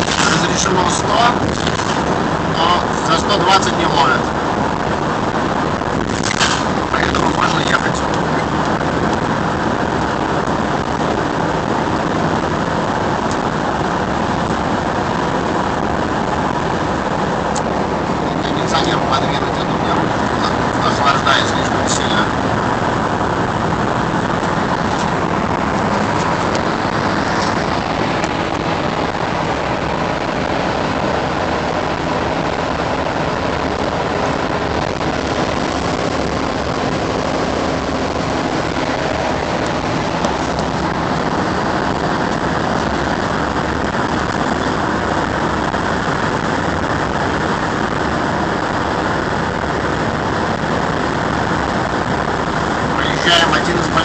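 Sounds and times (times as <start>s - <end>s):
car road noise from inside: 0.0s - 54.0s.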